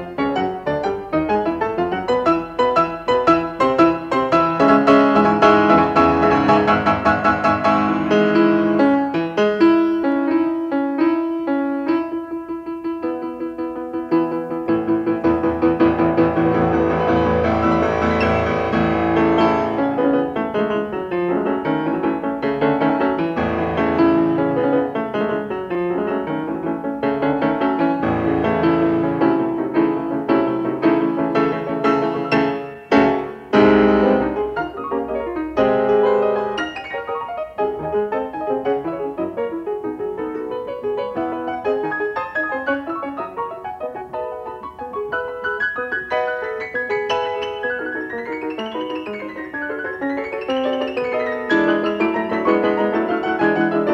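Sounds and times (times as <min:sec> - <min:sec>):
piano music: 0:00.0 - 0:53.9.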